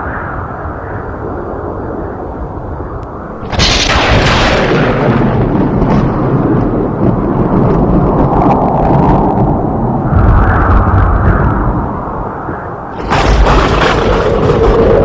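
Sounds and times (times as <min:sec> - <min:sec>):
storm wind: 0:00.0 - 0:15.0
thunderclap crack and rumble: 0:00.0 - 0:15.0.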